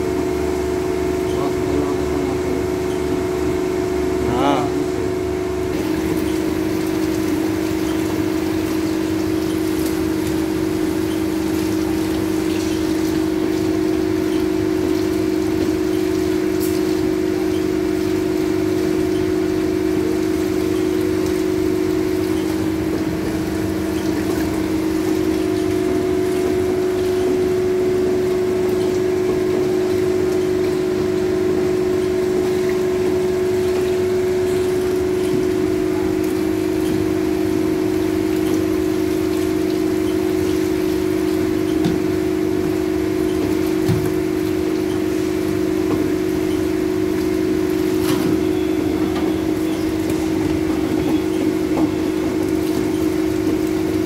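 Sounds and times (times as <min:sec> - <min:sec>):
loud steady machine hum: 0:00.0 - 0:54.0.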